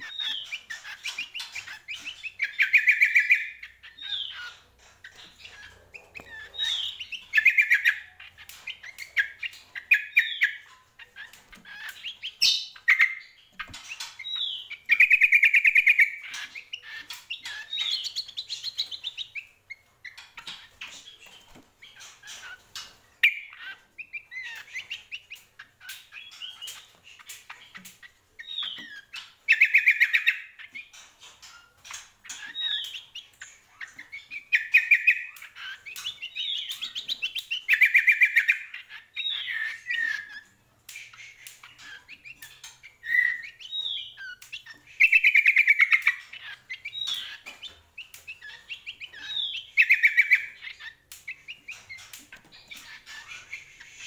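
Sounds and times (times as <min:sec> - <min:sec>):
bird singing trills and whistles: 0:00.0 - 0:54.0
sharp bird clicks: 0:00.0 - 0:54.0.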